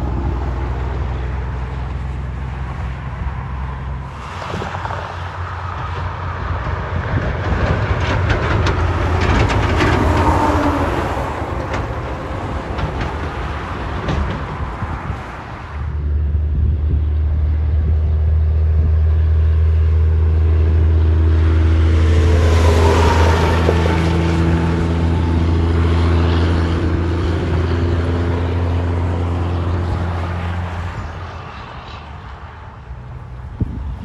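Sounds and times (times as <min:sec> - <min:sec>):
truck passing at speed: 0:00.0 - 0:34.0.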